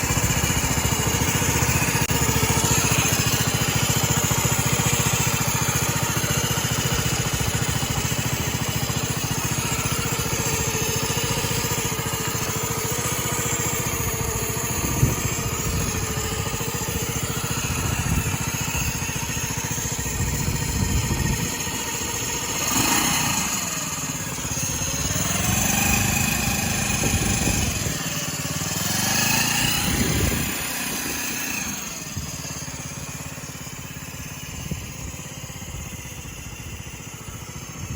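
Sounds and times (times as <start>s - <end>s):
engine knock: 0.0s - 37.9s
motorcycle engine running: 0.0s - 37.9s.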